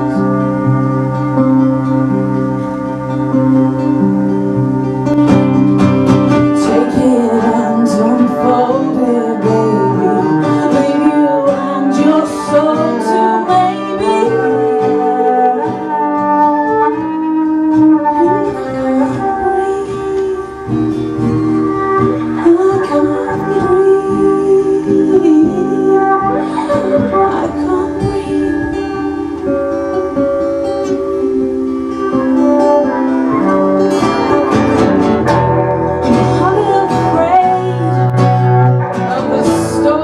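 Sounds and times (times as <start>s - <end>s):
cello: 0.0s - 40.0s
plucked acoustic guitar: 0.0s - 40.0s.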